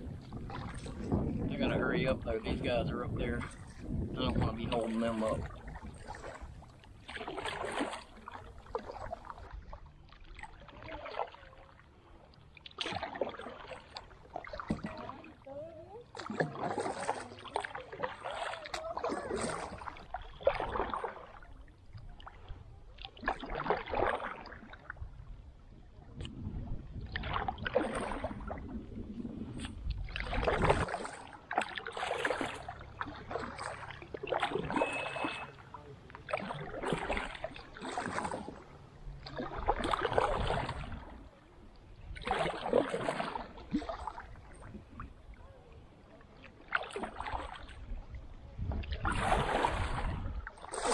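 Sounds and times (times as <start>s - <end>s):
paddle splashing in water: 0.0s - 50.9s.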